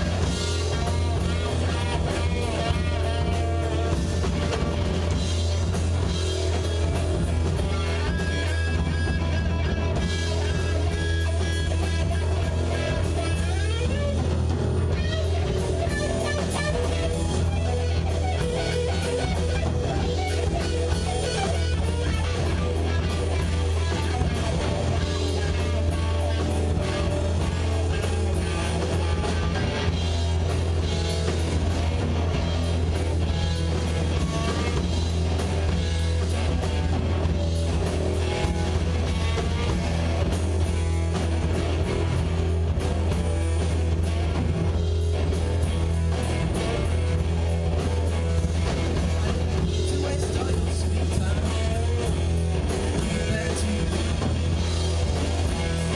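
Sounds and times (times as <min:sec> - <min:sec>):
bass guitar: 0:00.0 - 0:55.9
drum kit: 0:00.0 - 0:55.9
electric guitars: 0:00.0 - 0:55.9.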